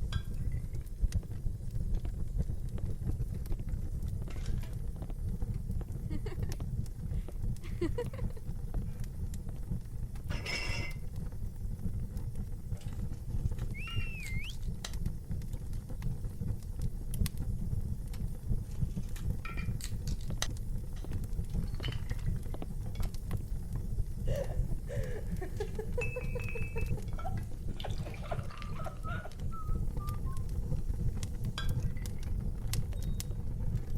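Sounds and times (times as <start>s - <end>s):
logs crackling and popping: 0.0s - 33.9s
wood fire rumbling: 0.0s - 33.9s.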